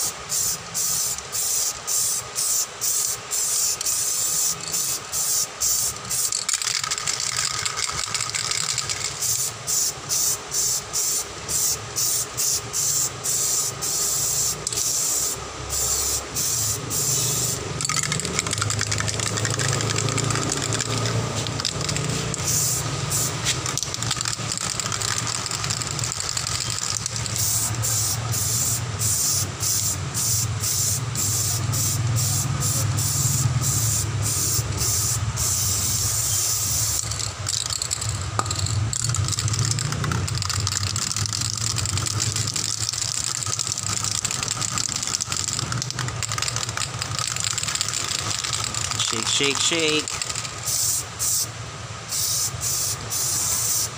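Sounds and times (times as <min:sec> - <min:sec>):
spray paint can hissing: 0:00.0 - 0:53.9
steady low hum: 0:00.0 - 0:53.9.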